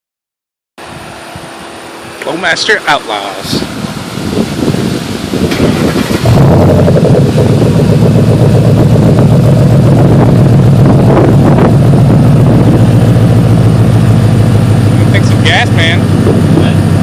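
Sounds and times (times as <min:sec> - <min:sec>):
car engine idling loudly: 0:00.8 - 0:17.0.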